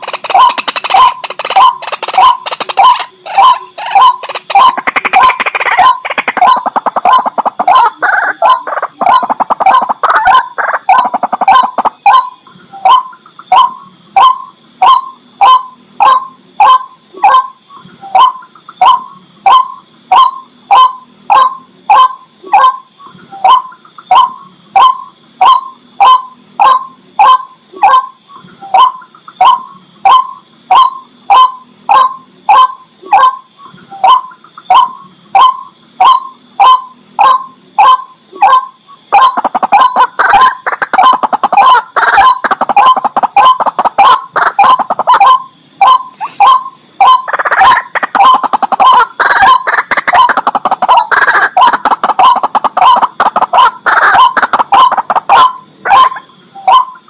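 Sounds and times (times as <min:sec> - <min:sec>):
waterhen calling kwak notes: 0:00.0 - 0:57.0.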